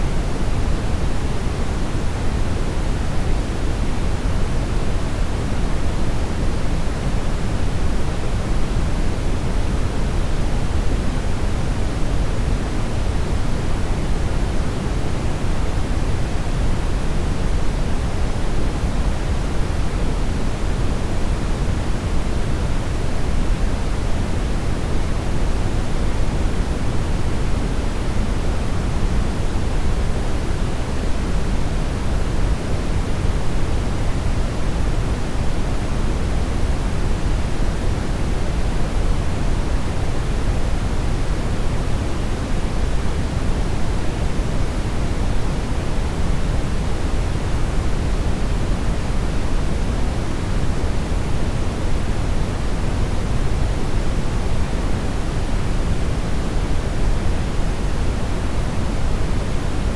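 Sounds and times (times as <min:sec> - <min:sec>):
brown noise rumbling hiss: 0:00.0 - 0:59.9.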